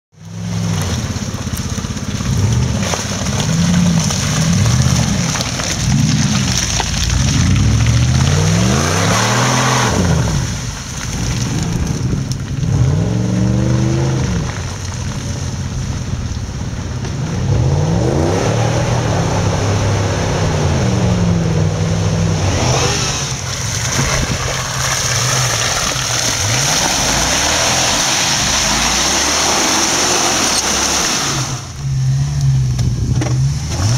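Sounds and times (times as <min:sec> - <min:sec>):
off-road vehicle engine revving: 0:00.2 - 0:33.9.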